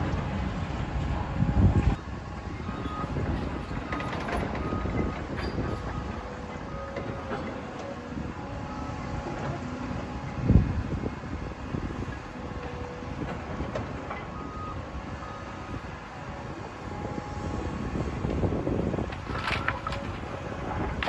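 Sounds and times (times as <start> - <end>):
heavy machinery low rumble: 0.0 - 21.0.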